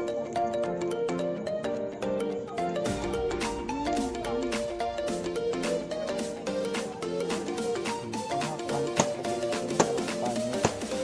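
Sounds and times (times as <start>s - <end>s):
light melodic background music: 0.0s - 11.0s.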